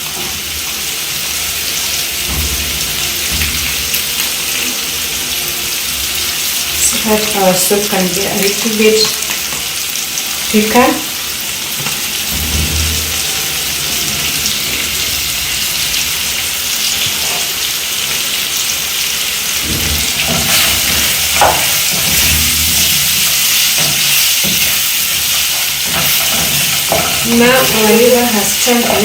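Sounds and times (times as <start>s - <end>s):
liver sizzling in a pan: 0.0s - 29.0s.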